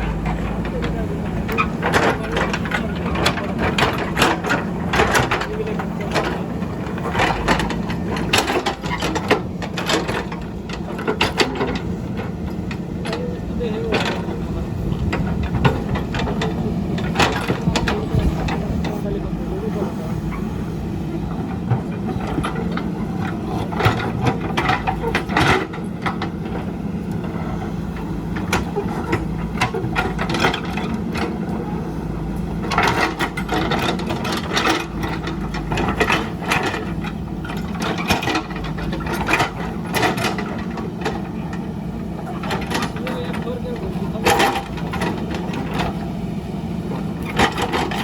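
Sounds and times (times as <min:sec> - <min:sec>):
diesel engine running under load: 0:00.0 - 0:48.0.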